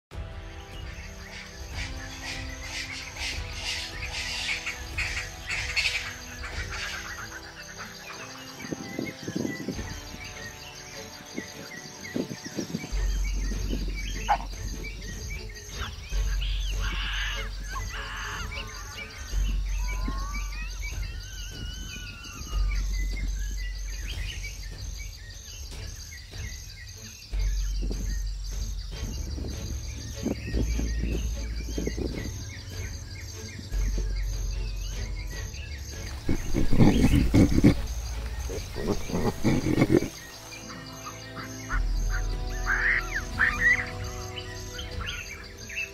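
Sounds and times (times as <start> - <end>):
background music with deep bass: 0.1 - 45.9
bird calls: 0.2 - 45.9.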